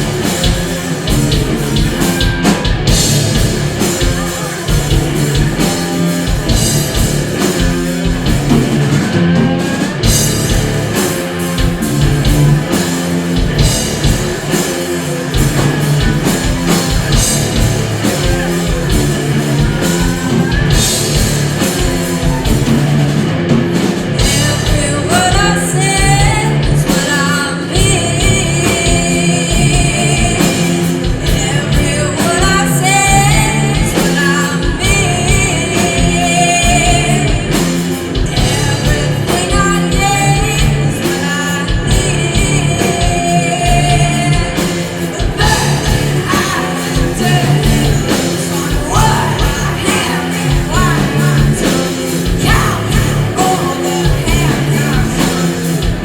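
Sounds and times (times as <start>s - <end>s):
rock band playing heavy music: 0.0s - 56.0s
singer wailing long notes: 0.9s - 56.0s.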